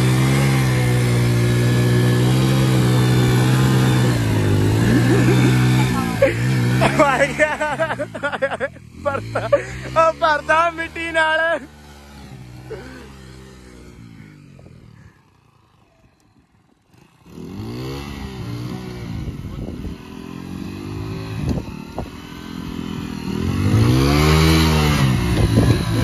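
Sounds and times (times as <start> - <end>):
wheel churning through mud: 0.0 - 15.5, 16.9 - 26.0
motorcycle engine revving: 0.0 - 26.0.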